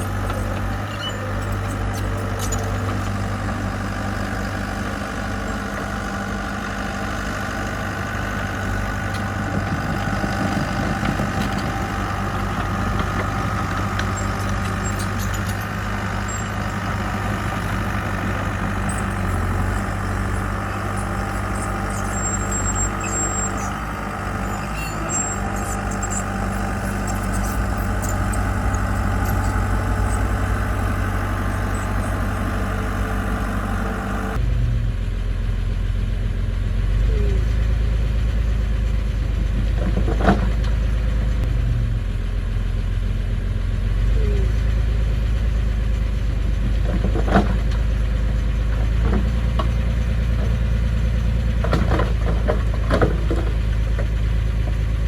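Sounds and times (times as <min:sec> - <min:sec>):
construction machine engine droning: 0:00.0 - 0:55.0.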